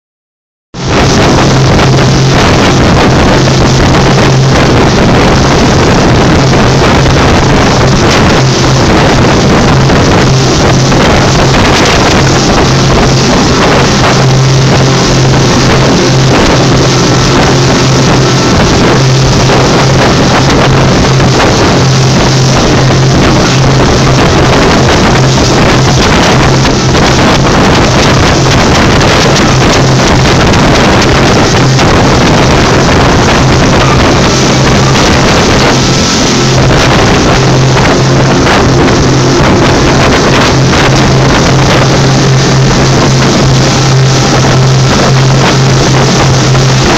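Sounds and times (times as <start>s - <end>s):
motorboat engine drone: 0.7s - 46.9s
wind and water rushing: 0.8s - 46.9s.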